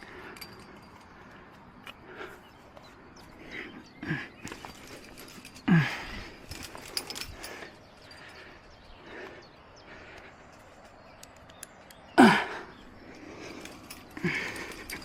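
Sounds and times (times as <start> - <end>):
heavy effortful breathing: 0.0 - 11.1, 12.1 - 15.0
faint clicks of gear: 0.0 - 12.2.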